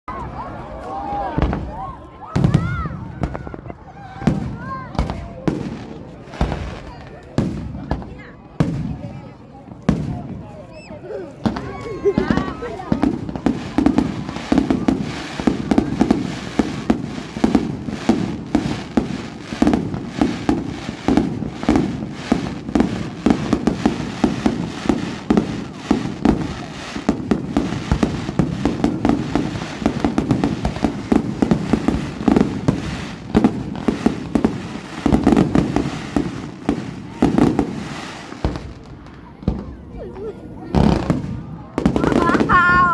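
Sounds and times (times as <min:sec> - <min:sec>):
fireworks bangs and cracks: 0:00.1 - 0:42.9.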